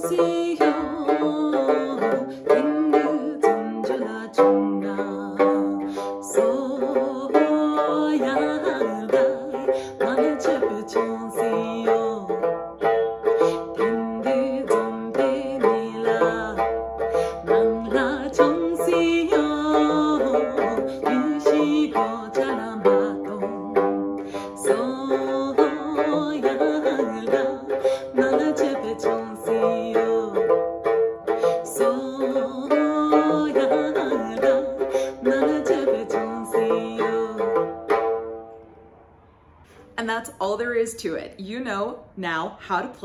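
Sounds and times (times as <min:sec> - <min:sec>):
woman singing: 0:00.0 - 0:12.5, 0:13.4 - 0:30.6, 0:31.4 - 0:37.8
plucked lute strumming: 0:00.0 - 0:39.9.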